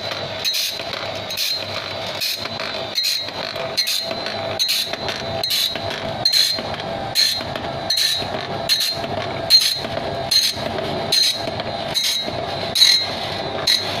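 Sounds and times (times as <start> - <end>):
mechanical hum: 0.0 - 14.0
saw-sharpening machine strokes: 0.0 - 14.0.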